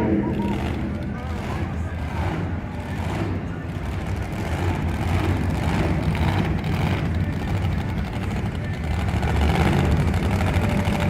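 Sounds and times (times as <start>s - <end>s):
monster truck engine rumbling: 0.0s - 11.0s.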